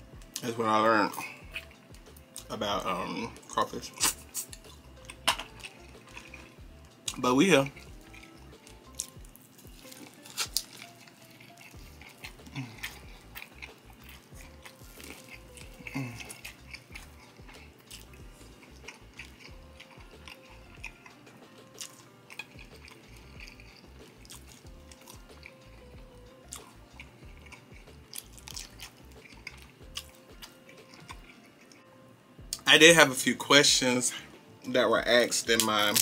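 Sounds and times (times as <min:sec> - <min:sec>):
biting and chewing crunches: 0:00.0 - 0:31.9, 0:35.1 - 0:36.0.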